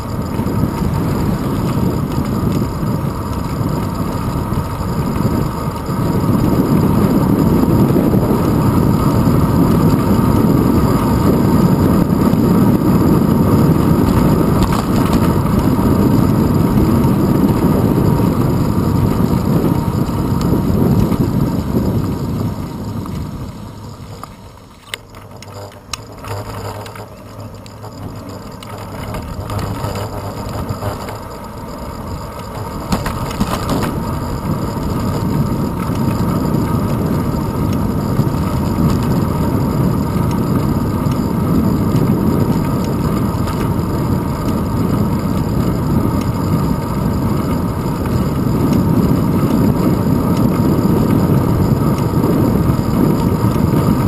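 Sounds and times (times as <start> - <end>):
wind buffeting microphone: 0.0 - 24.2, 27.9 - 54.0
road rumble: 0.0 - 54.0.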